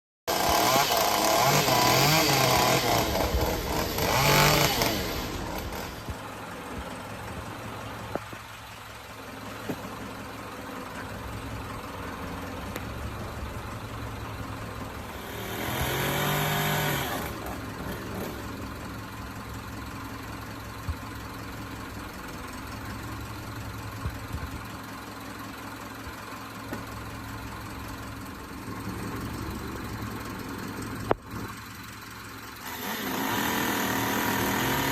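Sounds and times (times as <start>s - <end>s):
vehicle engine idling: 1.0s - 32.9s.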